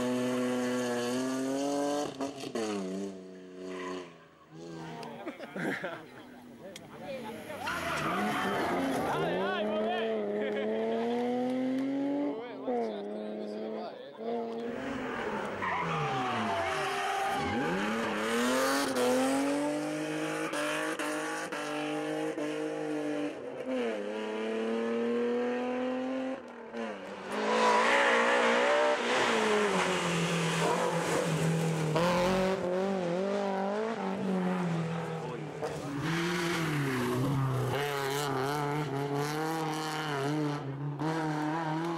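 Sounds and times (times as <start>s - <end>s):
rally car engines at high revs: 0.0s - 5.3s, 7.1s - 41.9s.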